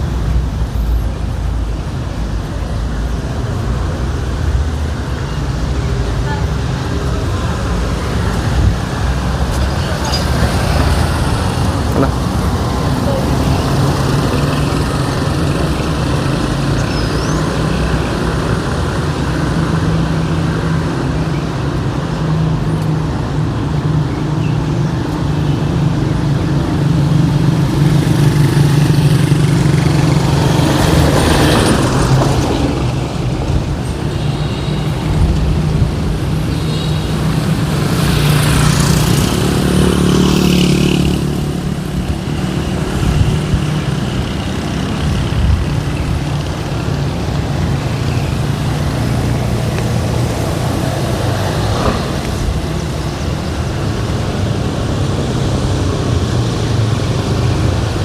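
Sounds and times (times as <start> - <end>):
traffic engine hum: 0.0 - 58.0
vehicles passing close: 0.0 - 58.0.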